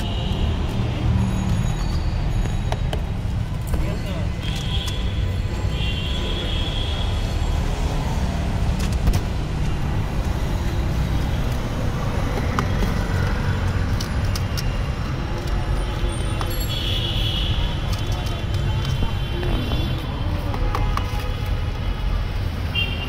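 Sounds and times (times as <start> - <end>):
road traffic rumbling: 0.0 - 23.0.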